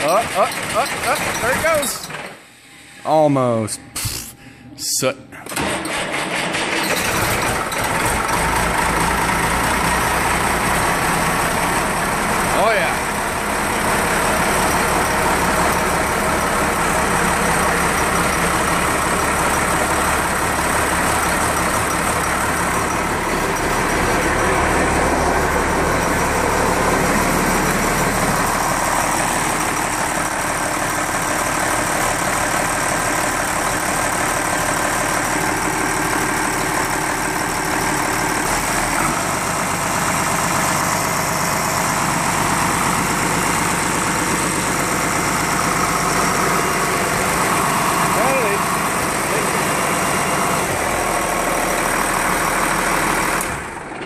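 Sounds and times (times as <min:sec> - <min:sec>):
diesel engine running: 0:00.0 - 0:03.0, 0:05.5 - 0:54.0.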